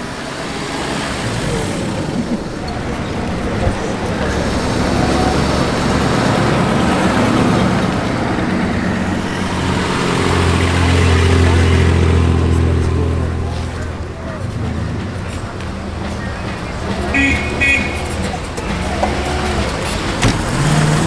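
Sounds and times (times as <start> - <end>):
road traffic: 0.0 - 21.0
vehicle engine hum: 0.0 - 21.0.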